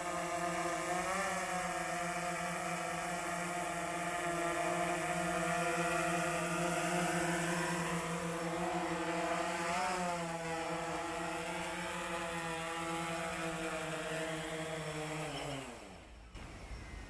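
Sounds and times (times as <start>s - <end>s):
drone hovering hum: 0.0s - 17.0s.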